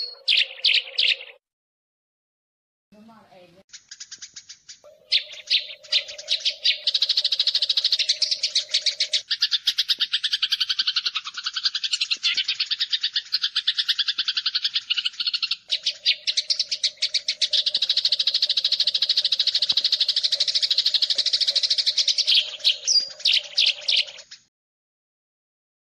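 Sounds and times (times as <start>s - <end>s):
sparrows chattering: 0.0s - 1.4s, 3.0s - 24.5s.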